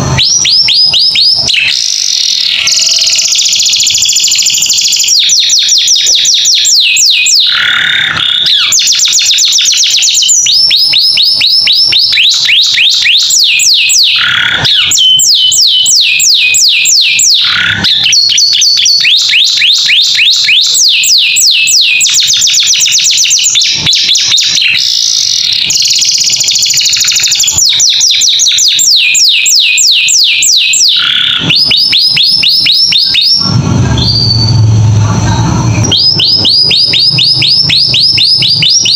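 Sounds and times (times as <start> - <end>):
canary singing: 0.0 - 34.7, 35.6 - 38.9.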